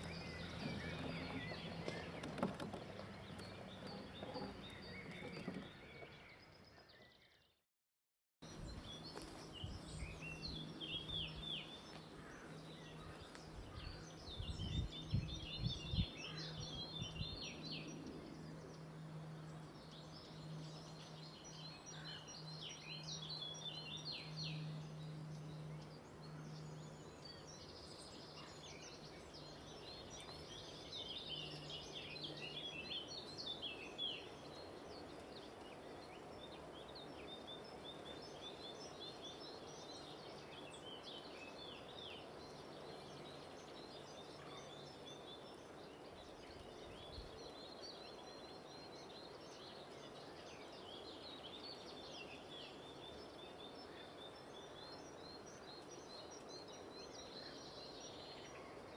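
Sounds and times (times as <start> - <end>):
small birds singing: 0.0 - 7.6, 8.4 - 58.9.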